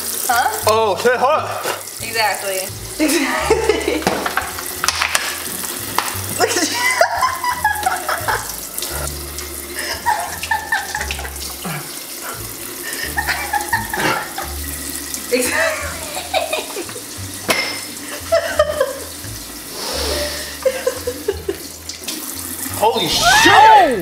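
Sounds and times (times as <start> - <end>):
faucet running into steel sink: 0.0 - 24.0.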